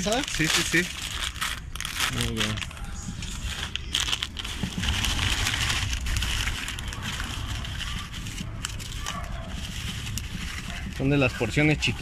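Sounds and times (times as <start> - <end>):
low steady rumble: 0.0 - 11.1.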